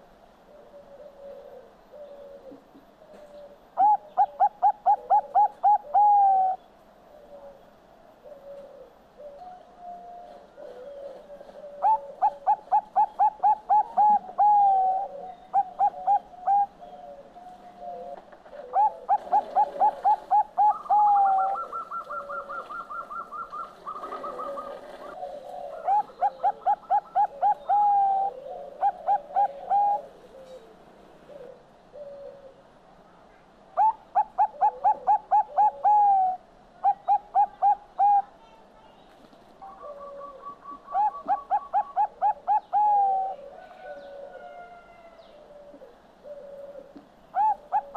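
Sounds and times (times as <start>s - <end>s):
dove cooing: 0.0s - 32.8s, 33.8s - 38.6s, 39.6s - 47.9s
faint dove cooing: 0.0s - 47.9s.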